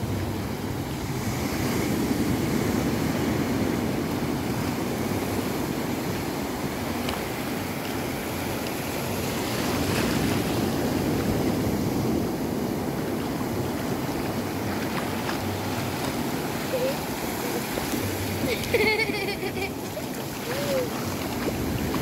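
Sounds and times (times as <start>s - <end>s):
surf breaking on beach: 0.0s - 22.0s.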